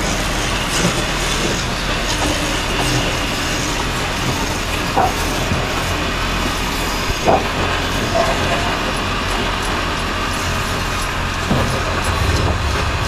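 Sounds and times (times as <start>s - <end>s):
wood lathe running: 0.0s - 13.0s.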